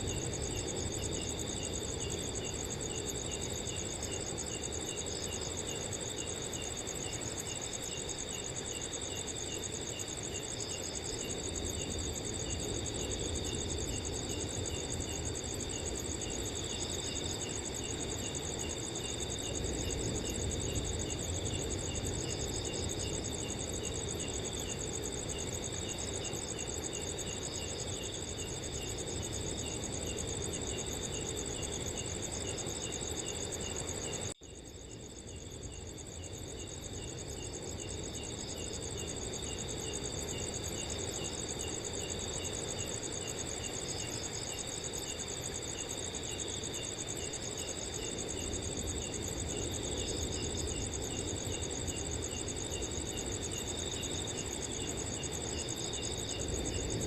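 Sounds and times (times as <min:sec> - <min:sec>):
cricket chirping: 0:00.0 - 0:57.0
crickets trilling: 0:00.0 - 0:57.0
wind: 0:00.0 - 0:57.0.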